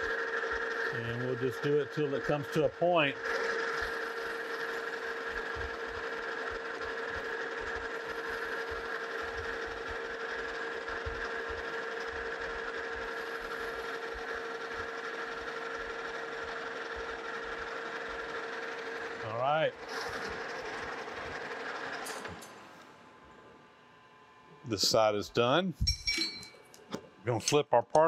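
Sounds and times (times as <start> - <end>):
metal lathe running: 0.0 - 22.8.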